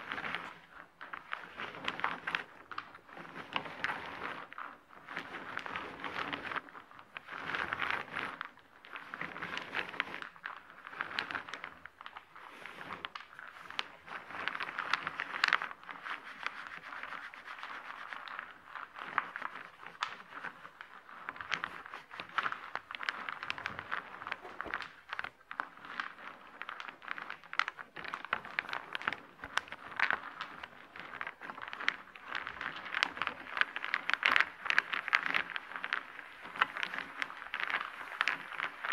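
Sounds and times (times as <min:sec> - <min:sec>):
wooden discs clattering and scraping: 0:00.0 - 0:38.9.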